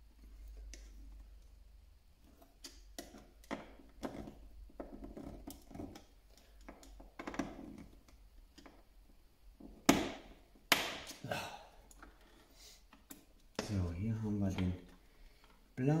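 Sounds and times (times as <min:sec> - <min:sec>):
small clicks and scrapes of hand work: 0:00.0 - 0:09.9, 0:11.8 - 0:13.8, 0:14.5 - 0:15.8.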